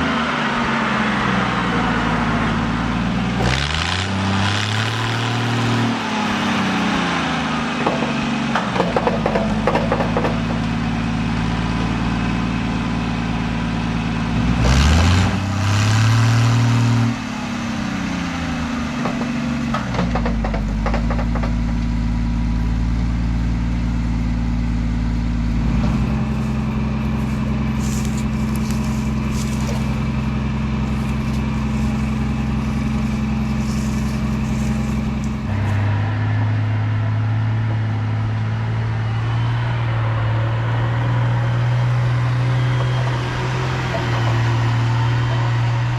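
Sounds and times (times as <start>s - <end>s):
loader engine revving: 0.0s - 45.9s.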